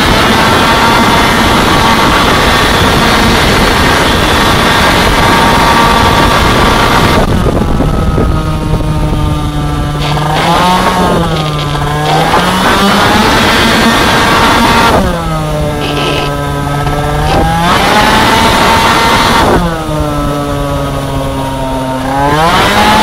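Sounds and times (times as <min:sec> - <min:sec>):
two-stroke scooter engine revving: 0:00.0 - 0:23.0.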